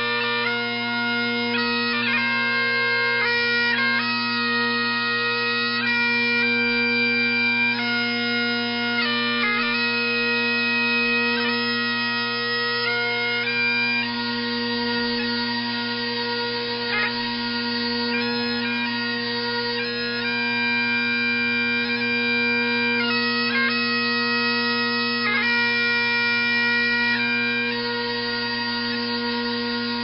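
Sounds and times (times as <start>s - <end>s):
bagpipes playing: 0.0s - 30.0s.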